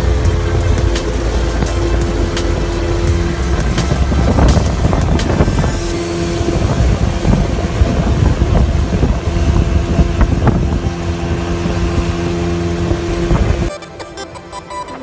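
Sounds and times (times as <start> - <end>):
wind buffeting microphone: 0.0 - 13.7
outboard motor humming: 0.0 - 15.0.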